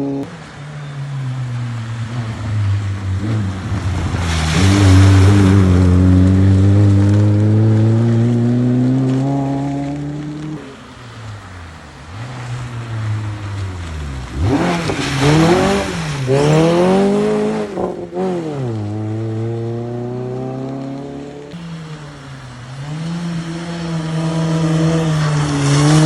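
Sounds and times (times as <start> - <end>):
rally car engine revving: 0.0 - 26.0
tyres on gravel: 0.0 - 26.0.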